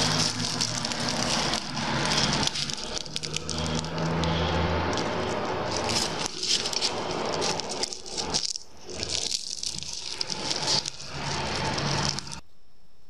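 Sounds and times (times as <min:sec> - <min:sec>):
pastry crackling as torn: 0:00.0 - 0:12.4.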